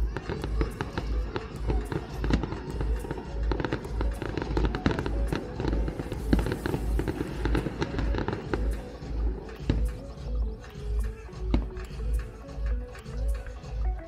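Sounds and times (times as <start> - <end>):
fireworks bangs and crackles: 0.0 - 14.0
music with bass beat: 0.0 - 14.0.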